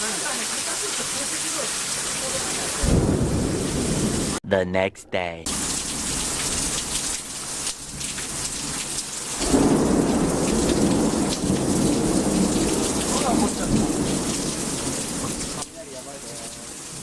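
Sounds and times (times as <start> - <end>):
falling water rushing: 0.0 - 4.4, 5.5 - 17.0.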